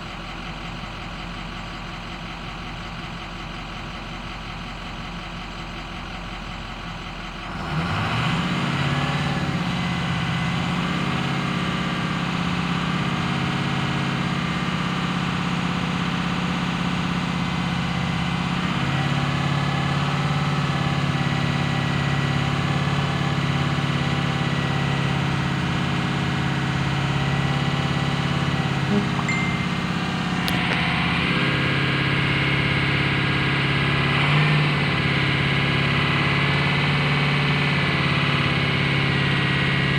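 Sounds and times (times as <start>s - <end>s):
diesel truck engine starting and running: 0.0s - 39.9s.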